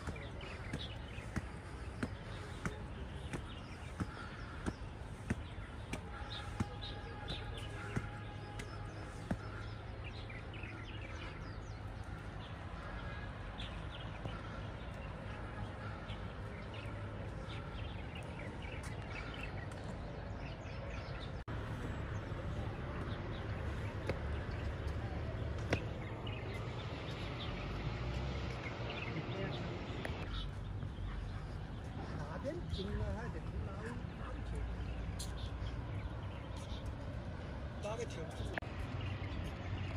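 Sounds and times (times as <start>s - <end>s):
faint distant voices: 0.0s - 36.8s
small birds chirping: 0.0s - 39.9s.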